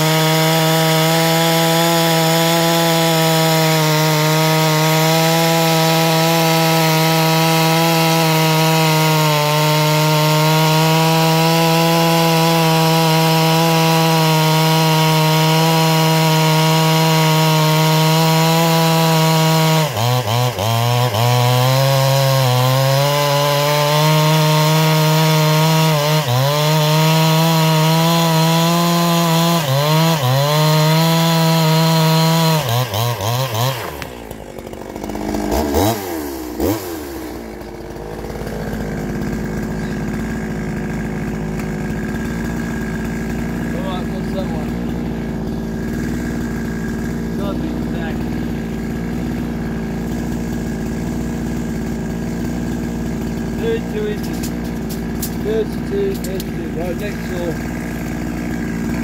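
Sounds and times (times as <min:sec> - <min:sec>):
chainsaw cutting through log: 0:00.0 - 0:59.0.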